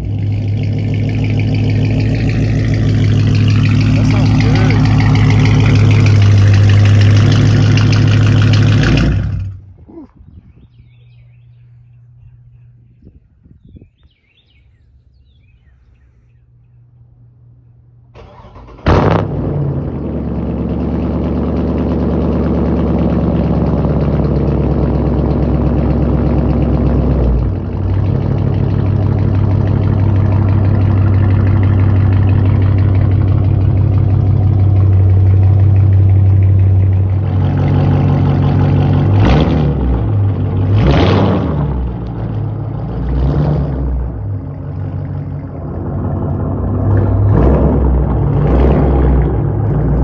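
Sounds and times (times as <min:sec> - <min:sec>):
car engine starting and idling: 0:00.0 - 0:09.8, 0:17.0 - 0:50.0
engine throttle blips: 0:00.0 - 0:09.8, 0:15.2 - 0:50.0.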